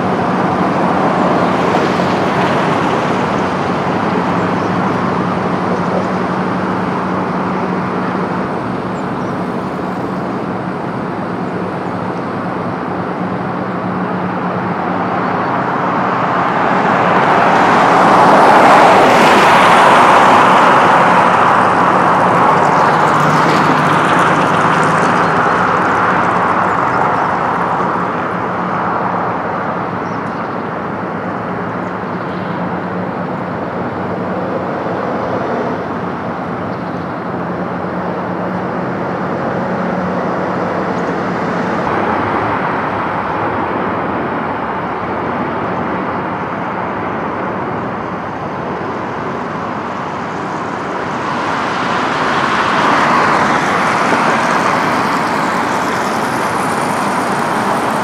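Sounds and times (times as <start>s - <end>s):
car passing close: 0.0s - 58.0s
road traffic rumble: 0.0s - 58.0s.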